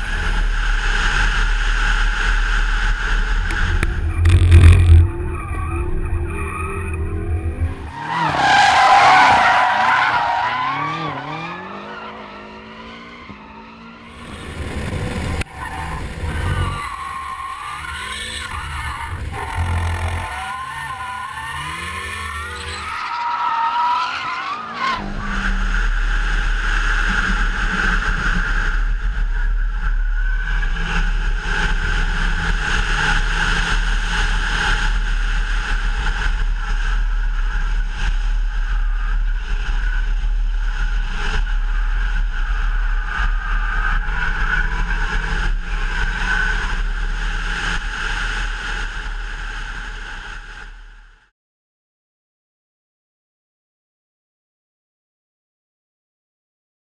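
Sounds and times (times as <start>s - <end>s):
car engine revving: 0.0s - 22.9s, 24.4s - 50.6s.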